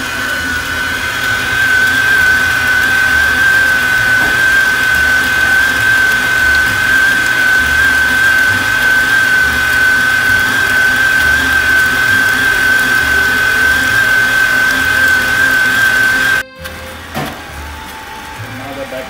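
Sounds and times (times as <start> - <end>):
stand mixer motor whine: 0.0 - 19.0.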